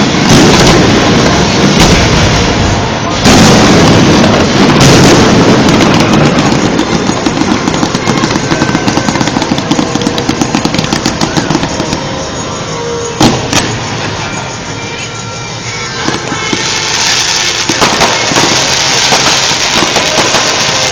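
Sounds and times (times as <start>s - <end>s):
fireworks crackling pops: 0.0s - 12.3s, 13.2s - 20.9s
fireworks bursting: 0.0s - 20.9s
sharp fireworks bangs: 0.0s - 20.9s.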